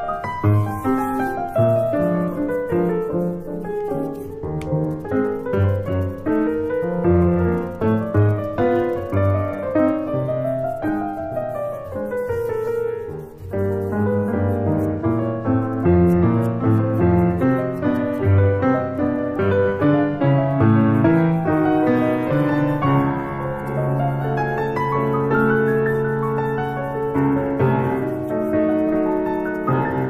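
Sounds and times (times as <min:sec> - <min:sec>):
gentle solo piano music: 0:00.0 - 0:30.0.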